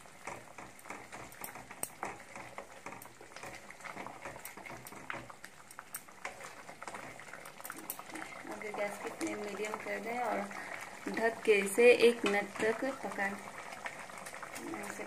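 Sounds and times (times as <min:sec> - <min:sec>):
thick gravy bubbling: 0:00.0 - 0:15.0.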